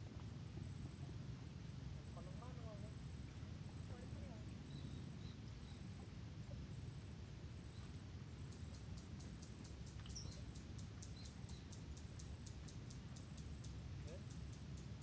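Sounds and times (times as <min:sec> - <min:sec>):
insect chirps: 0:00.1 - 0:15.0.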